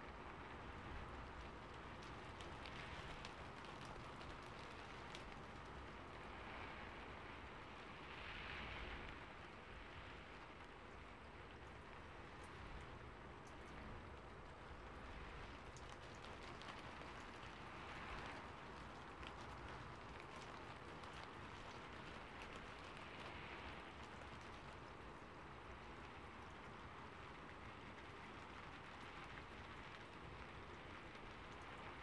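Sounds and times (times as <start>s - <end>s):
rain patter: 0.0s - 32.0s.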